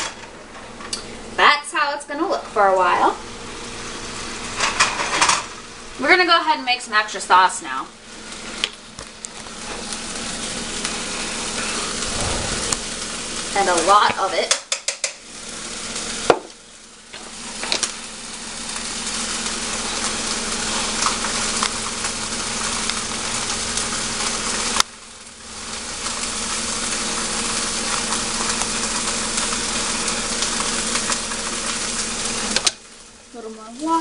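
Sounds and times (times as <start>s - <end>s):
sauce sizzling in a frying pan: 0.7s - 34.0s.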